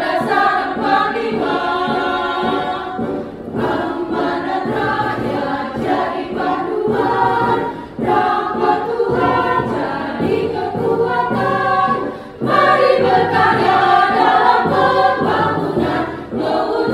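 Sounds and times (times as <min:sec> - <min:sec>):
women's choir singing: 0:00.0 - 0:16.9.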